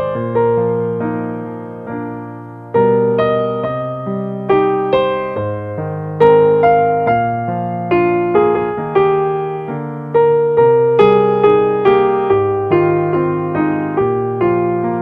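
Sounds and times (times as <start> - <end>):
calm electric piano music: 0.0 - 15.0.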